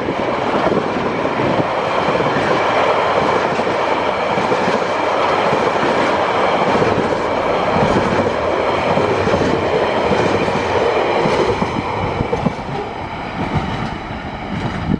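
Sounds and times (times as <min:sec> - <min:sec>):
freight train rolling past: 0:00.0 - 0:14.9.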